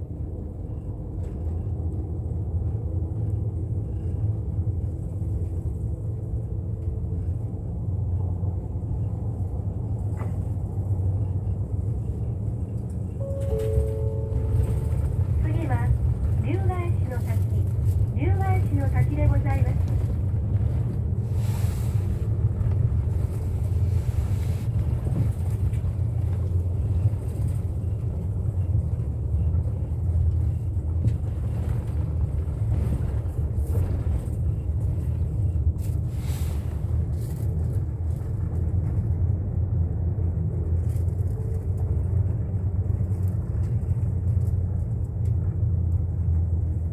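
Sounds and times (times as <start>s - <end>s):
bus engine and tyres rumbling: 0.0s - 46.9s.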